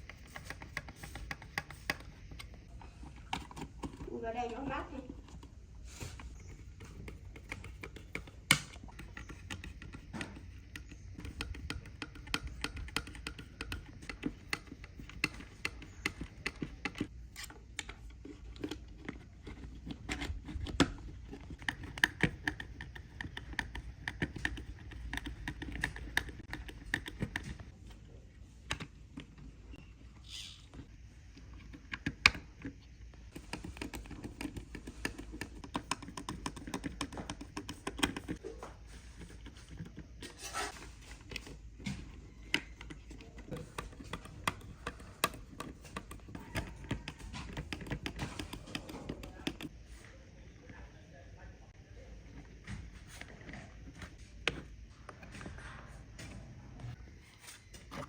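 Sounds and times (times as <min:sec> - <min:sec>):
small tools clicking and tapping: 0:00.0 - 0:27.8, 0:30.8 - 0:49.7.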